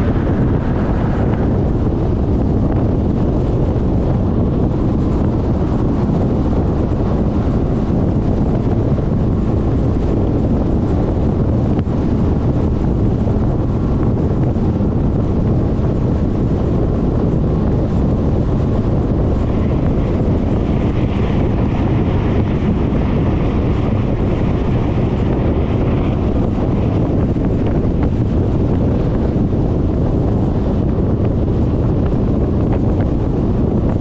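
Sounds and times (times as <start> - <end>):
scooter road and engine noise: 0.0 - 34.0
wind buffeting microphone: 0.0 - 34.0.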